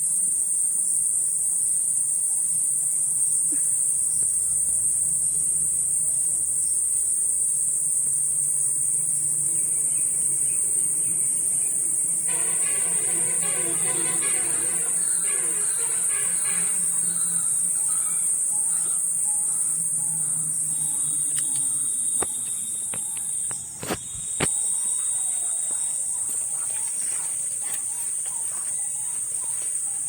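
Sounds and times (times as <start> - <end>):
shrill insect chorus: 1.0 - 30.0.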